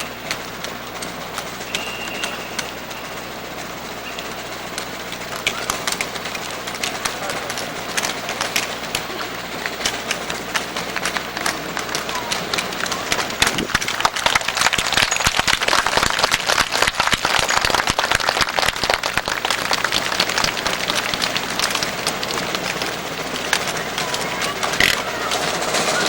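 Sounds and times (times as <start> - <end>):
audience applauding: 0.0 - 26.0
crowd chatter: 0.0 - 26.0.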